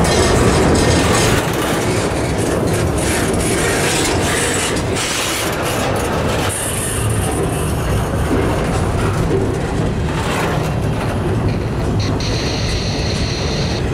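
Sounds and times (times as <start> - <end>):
train rumbling past: 0.0 - 13.9
wheels clacking over rail joints: 0.0 - 13.9.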